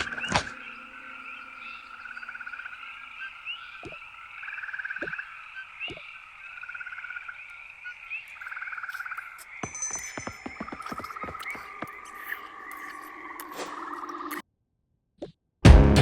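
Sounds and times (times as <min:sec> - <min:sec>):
frog chorus: 0:00.0 - 0:09.8, 0:10.7 - 0:14.4
frogs trilling: 0:00.0 - 0:14.4.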